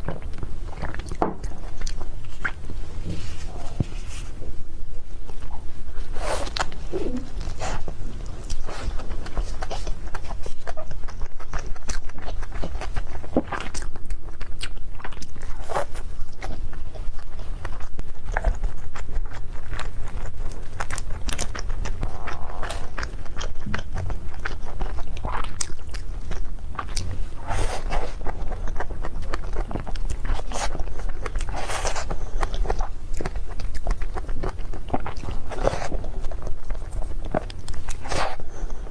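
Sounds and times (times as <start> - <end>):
person biting and chewing cake: 0.0 - 38.9.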